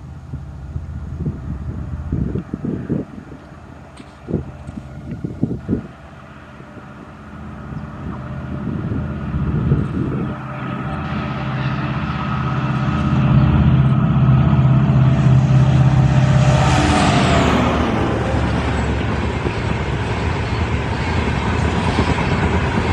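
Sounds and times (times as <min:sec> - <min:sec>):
diesel locomotive engine drone: 0:00.0 - 0:22.9
wheel and rail noise: 0:00.0 - 0:22.9.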